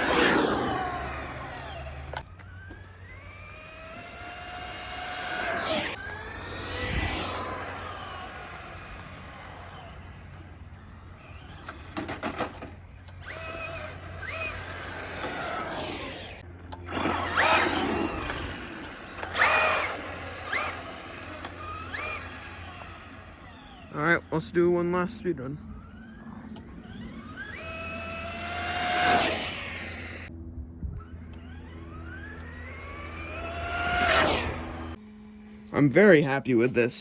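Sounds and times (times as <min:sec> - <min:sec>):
electric motor whine: 0:00.0 - 0:36.4.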